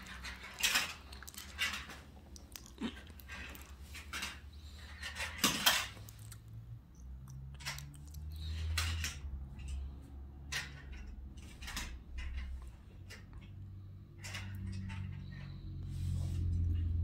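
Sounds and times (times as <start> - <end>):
toy cars clattering: 0.0 - 15.6.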